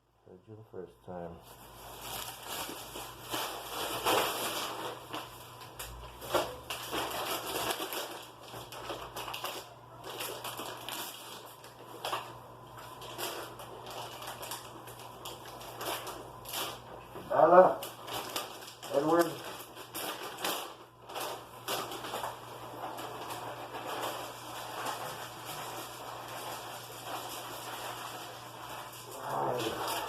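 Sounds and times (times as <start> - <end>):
packaging crinkling: 1.5 - 30.0.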